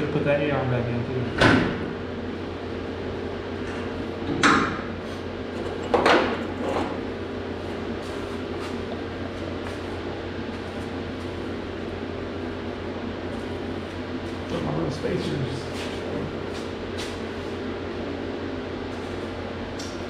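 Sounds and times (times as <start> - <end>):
electrical fan hum: 0.0 - 20.0.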